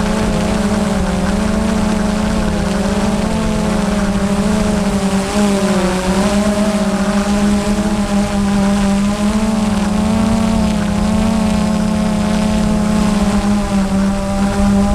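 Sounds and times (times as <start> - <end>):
drone propellers whining: 0.0 - 14.9
wind buffeting microphone: 0.0 - 14.9.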